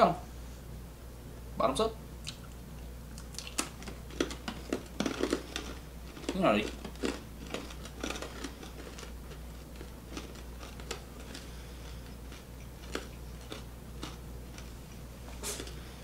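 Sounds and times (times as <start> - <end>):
steady low hum: 0.0 - 16.0
people chewing crunchy brittle: 2.2 - 16.0.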